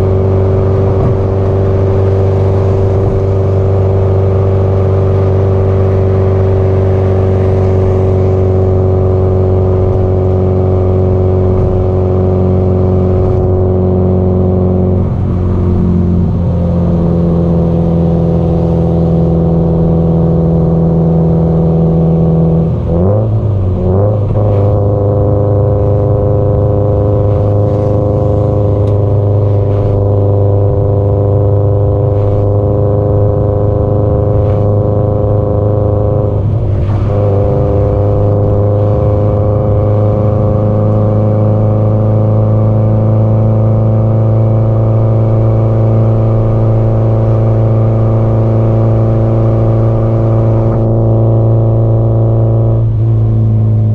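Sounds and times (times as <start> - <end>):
car engine cruising: 0.0 - 53.9.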